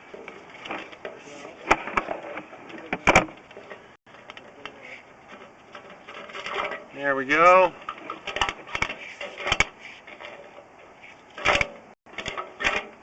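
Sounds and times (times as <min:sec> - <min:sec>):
cable rattling and clicking: 0:00.0 - 0:13.0.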